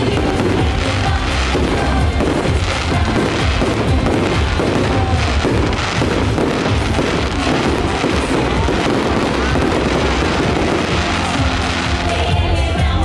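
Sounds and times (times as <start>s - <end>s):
fireworks booming: 0.0s - 12.2s
loud show music: 0.0s - 13.0s.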